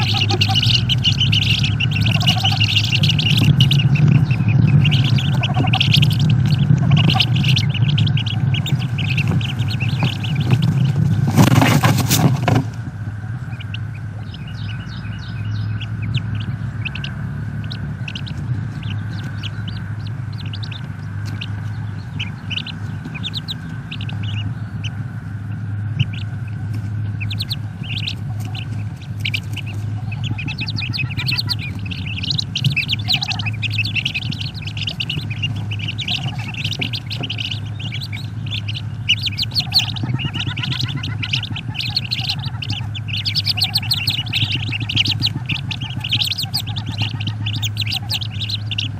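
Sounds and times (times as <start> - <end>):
ducklings peeping: 0.0 - 48.9
low electrical hum: 0.0 - 48.9.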